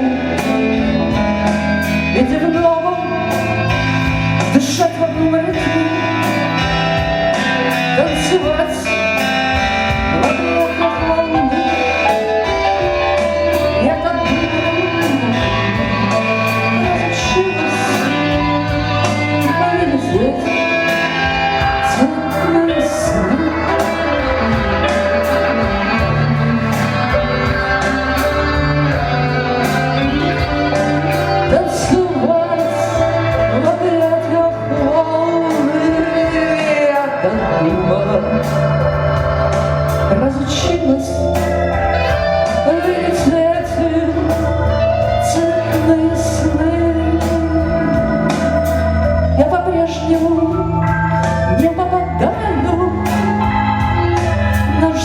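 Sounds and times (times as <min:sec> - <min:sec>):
cymbals keeping a beat: 0:00.0 - 0:55.0
electric guitar: 0:00.0 - 0:55.0
keyboards: 0:00.0 - 0:55.0
live band music: 0:00.0 - 0:55.0.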